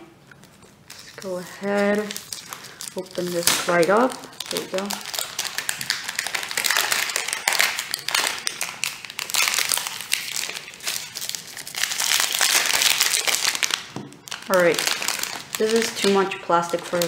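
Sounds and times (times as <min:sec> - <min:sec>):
plastic bag crinkling: 0:00.3 - 0:17.0.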